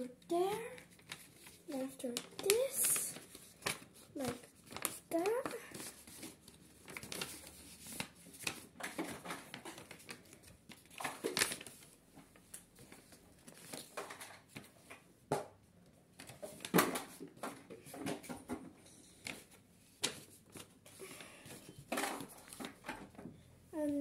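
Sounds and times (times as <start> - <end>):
paper rustling and crinkling: 0.0 - 15.1, 16.1 - 24.0.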